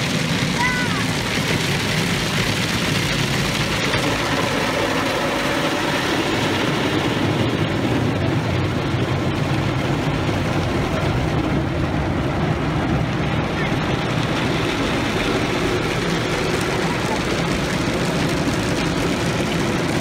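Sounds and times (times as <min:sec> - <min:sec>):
car wash rushing noise: 0:00.0 - 0:20.0.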